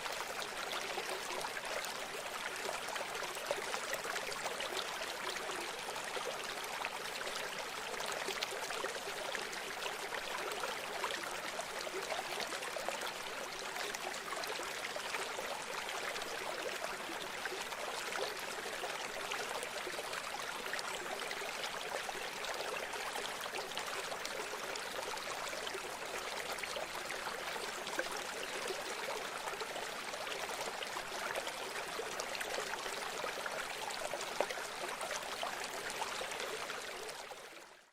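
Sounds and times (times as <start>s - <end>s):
river water flowing: 0.0s - 37.7s.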